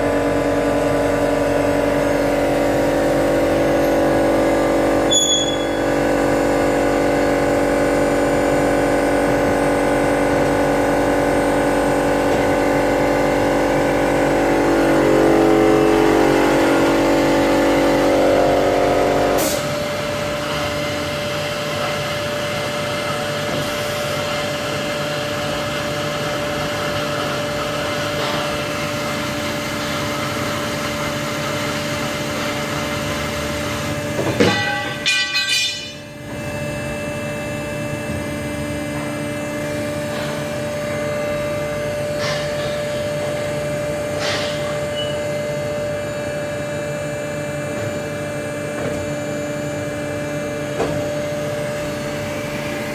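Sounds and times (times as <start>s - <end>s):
band saw whine: 0.0s - 52.9s.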